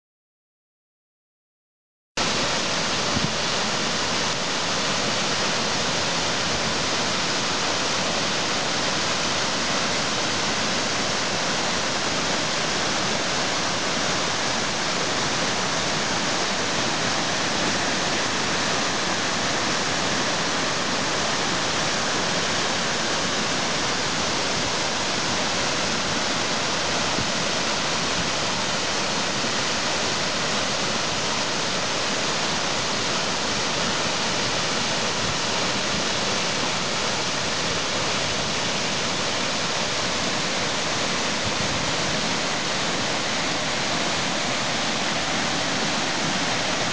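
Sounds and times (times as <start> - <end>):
waterfall rushing: 2.2 - 46.9.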